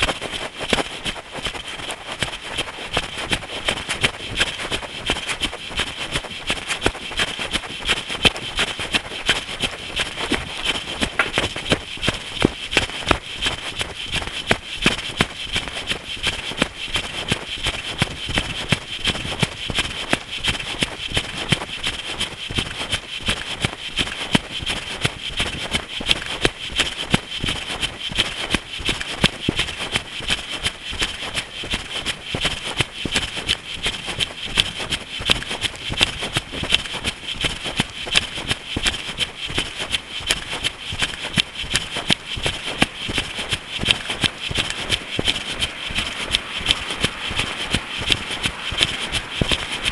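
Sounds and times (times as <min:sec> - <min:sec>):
jogging footsteps on a path: 0:00.0 - 0:49.9.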